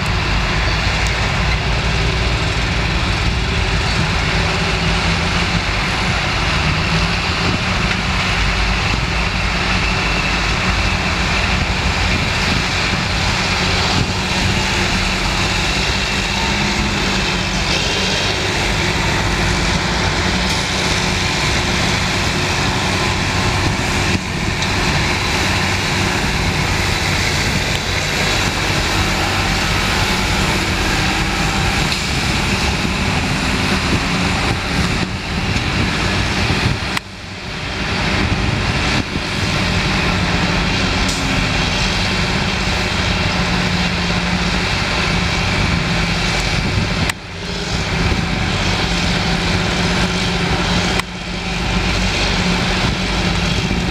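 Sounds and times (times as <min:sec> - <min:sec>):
heavy diesel engine and machinery: 0:00.0 - 0:53.9.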